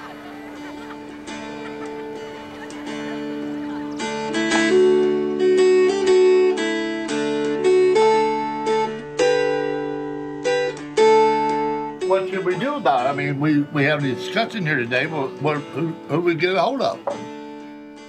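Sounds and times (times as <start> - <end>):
plucked string instrument: 0.0 - 18.0.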